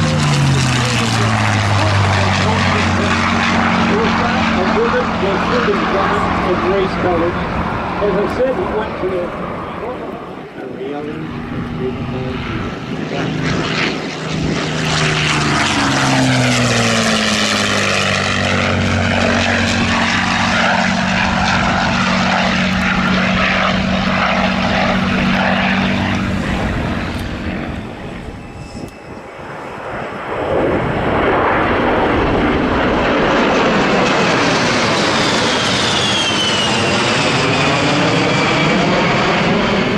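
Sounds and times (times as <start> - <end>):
propeller aircraft flying past: 0.0 - 39.9
rushing engine noise: 0.0 - 39.9.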